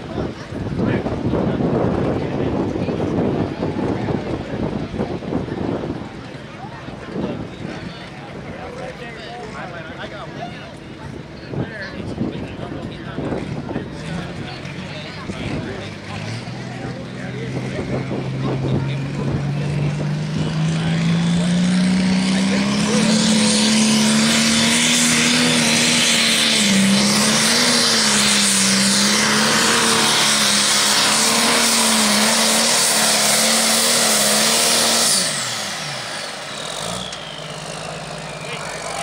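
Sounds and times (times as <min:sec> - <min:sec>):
diesel engine at full throttle: 0:00.0 - 0:39.0.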